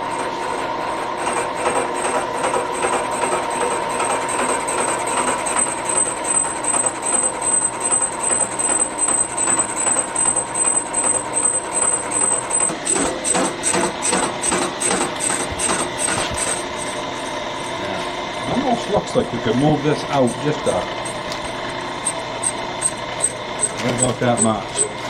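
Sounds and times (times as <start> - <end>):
machine tool cutting metal: 0.0 - 25.0.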